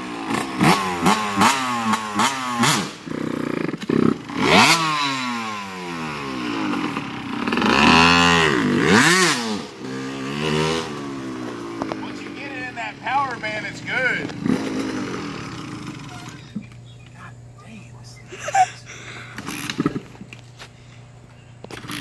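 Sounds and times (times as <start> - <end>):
two-stroke engine revving: 0.0 - 17.5, 19.3 - 20.2, 21.7 - 22.0.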